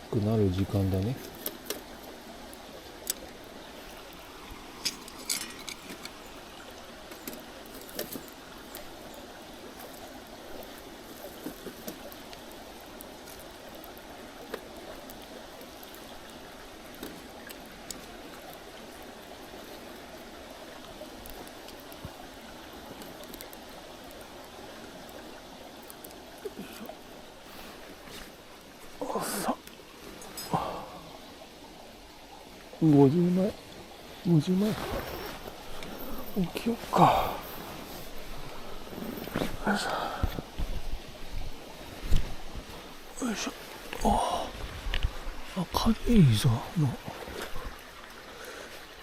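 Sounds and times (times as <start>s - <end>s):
campfire crackles: 0.0s - 49.0s
mountain stream flowing: 0.0s - 49.0s.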